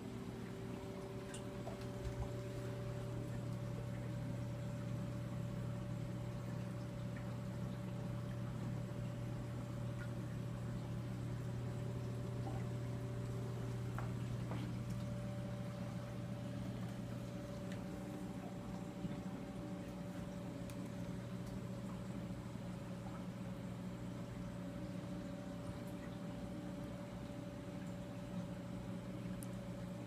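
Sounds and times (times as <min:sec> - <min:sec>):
low pump hum: 0:00.0 - 0:30.0
water circulating: 0:00.0 - 0:30.0.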